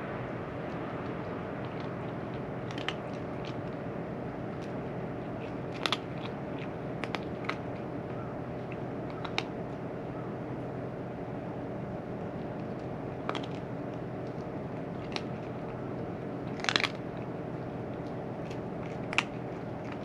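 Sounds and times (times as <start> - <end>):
cat crunching dry food: 0.0 - 20.0
steady background hum: 0.0 - 20.0.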